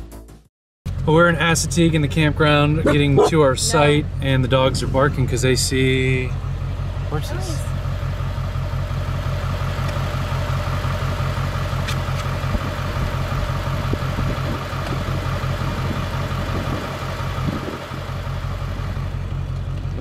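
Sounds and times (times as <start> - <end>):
truck engine idling: 1.1 - 20.0.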